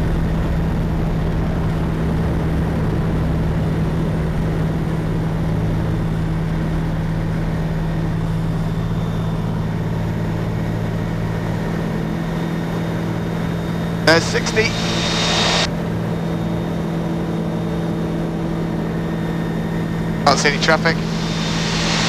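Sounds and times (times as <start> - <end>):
light aircraft engine at full throttle: 0.0 - 22.0.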